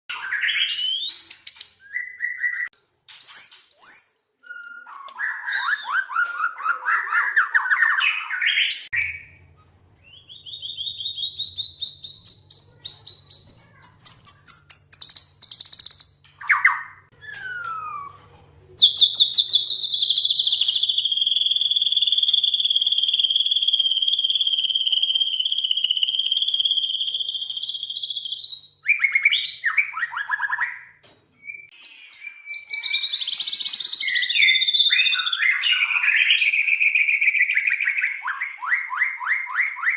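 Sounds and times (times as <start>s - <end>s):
bird singing whistled phrases: 0.1s - 9.4s, 10.0s - 18.2s, 18.8s - 39.9s.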